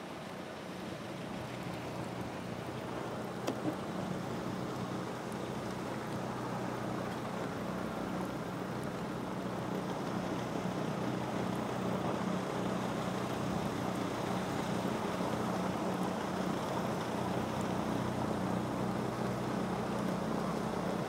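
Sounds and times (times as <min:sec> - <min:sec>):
vehicle engine and tyres on snow: 0:00.0 - 0:21.0.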